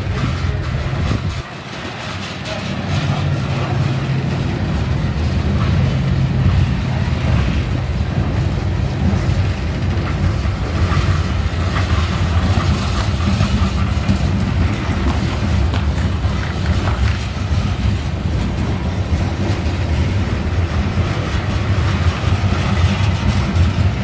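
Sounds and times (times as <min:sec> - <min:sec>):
locomotive engine droning: 0:00.0 - 0:24.0
steel wheels rolling on rails: 0:00.0 - 0:24.0.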